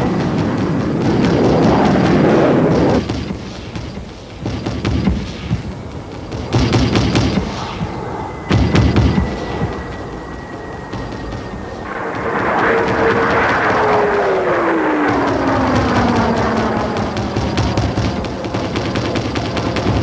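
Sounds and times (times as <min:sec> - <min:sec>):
anti-aircraft gun firing bursts: 0:00.0 - 0:07.9, 0:11.1 - 0:20.0
aircraft noise: 0:00.0 - 0:20.0.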